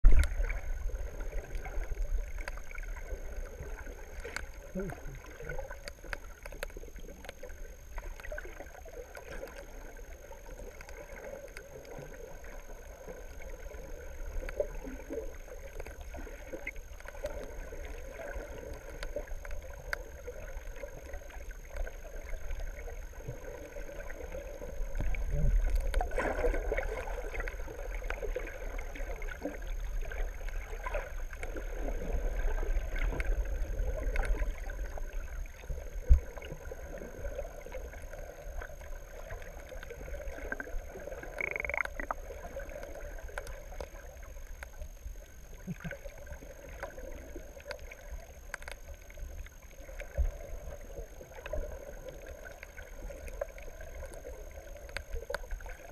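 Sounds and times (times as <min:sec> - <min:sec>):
underwater rumble of moving water: 0:00.0 - 0:55.9.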